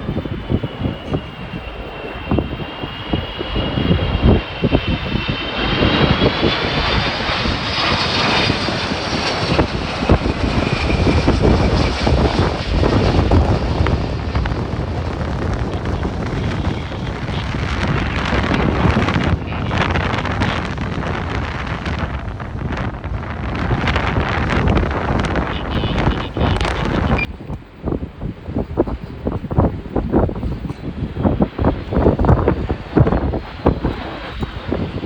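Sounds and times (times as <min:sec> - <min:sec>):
jet engines rumbling and whining: 0:00.0 - 0:35.0
wind buffeting microphone: 0:00.0 - 0:35.0.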